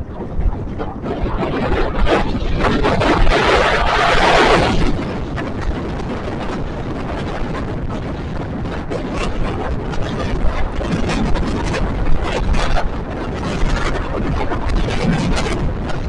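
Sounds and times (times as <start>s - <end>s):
motorcycle road and engine noise: 0.0s - 16.0s
wind buffeting microphone: 0.0s - 16.0s.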